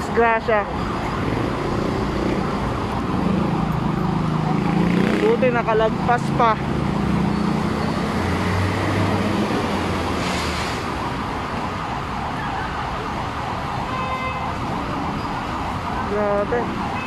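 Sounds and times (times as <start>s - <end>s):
faint emergency siren: 0.0s - 10.2s, 10.8s - 17.0s
road traffic noise: 0.0s - 17.0s.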